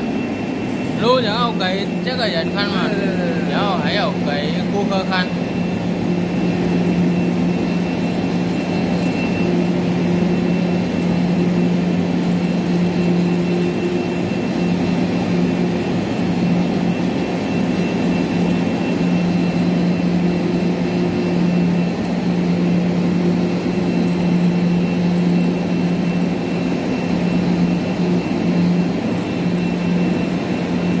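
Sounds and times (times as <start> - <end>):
faint high whine: 0.0 - 31.0
machine hum: 0.0 - 31.0.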